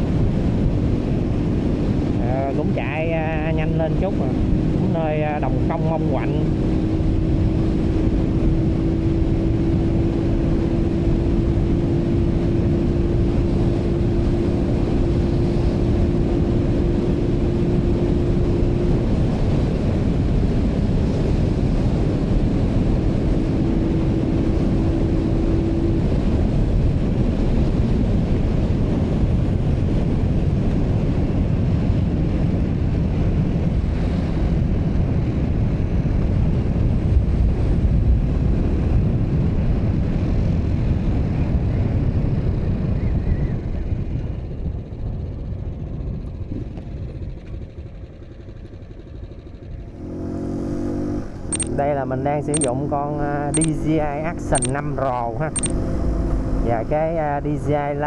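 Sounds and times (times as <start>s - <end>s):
motorcycle engine running: 0.0s - 57.9s
wind buffeting microphone: 0.0s - 58.0s.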